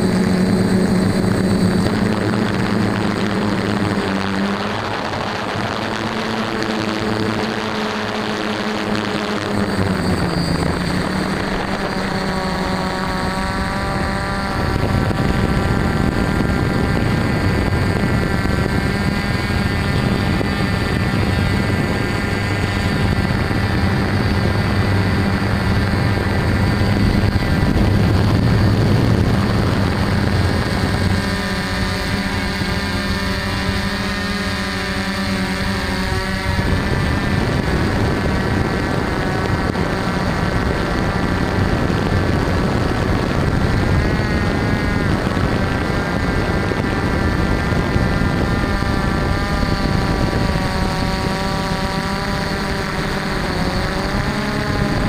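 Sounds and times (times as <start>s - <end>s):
drone motors and propellers droning: 0.0s - 55.0s.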